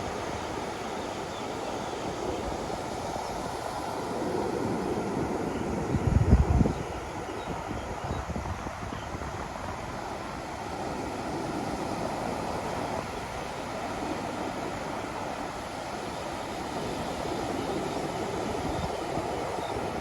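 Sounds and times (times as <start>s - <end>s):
ocean waves washing on beach: 0.0s - 20.0s.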